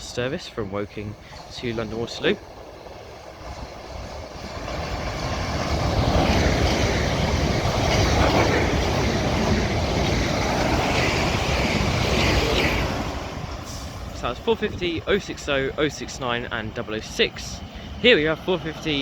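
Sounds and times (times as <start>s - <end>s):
train wheels rushing on rail: 0.0s - 19.0s.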